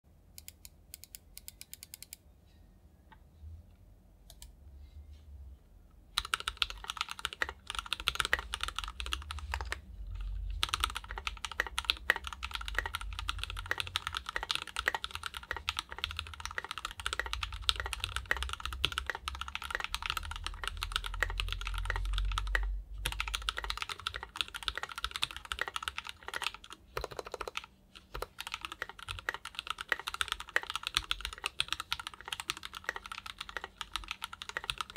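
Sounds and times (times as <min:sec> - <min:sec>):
mechanical keyboard typing: 0:06.2 - 0:34.9.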